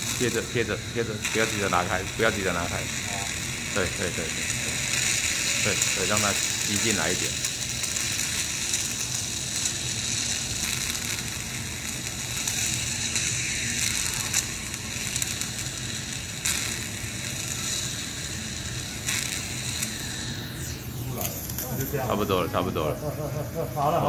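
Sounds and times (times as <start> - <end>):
suction tube hissing and crackling: 0.0 - 24.0.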